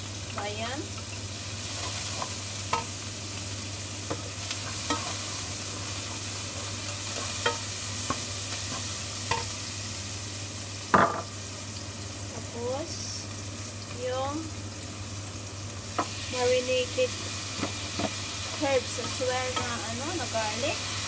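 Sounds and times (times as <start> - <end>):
herbs sizzling in a pan: 0.0 - 21.0.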